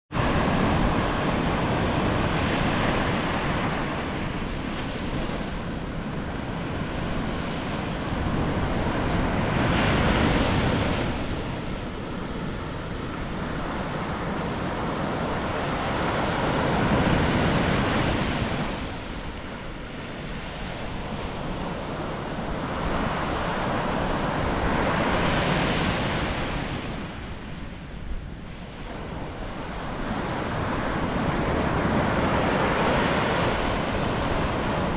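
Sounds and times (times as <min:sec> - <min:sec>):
surf breaking on a beach: 0:00.1 - 0:34.9
wind rumbling on microphone: 0:00.1 - 0:34.9.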